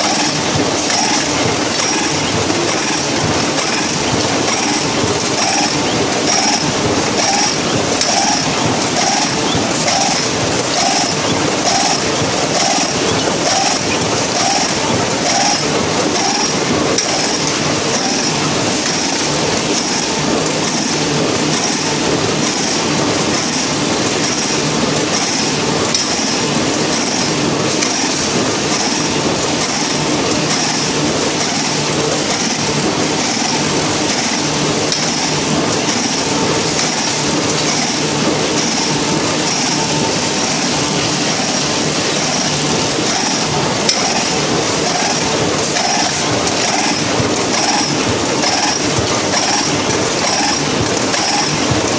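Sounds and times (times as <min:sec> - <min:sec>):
loud mechanical clatter: 0:00.0 - 0:51.9
sewing machine cycling rhythmically: 0:00.0 - 0:51.9.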